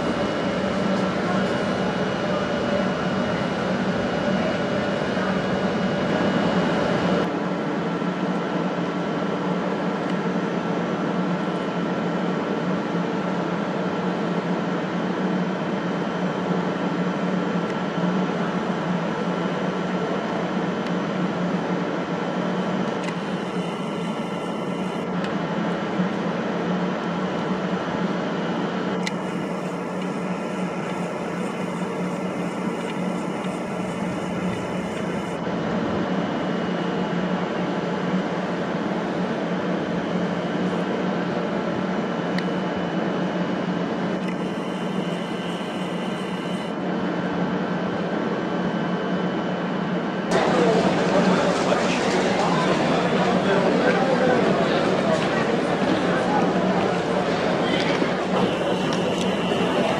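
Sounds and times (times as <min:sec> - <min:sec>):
faint steady whine: 0:00.0 - 0:59.9
train equipment mechanical hum: 0:00.0 - 0:59.9.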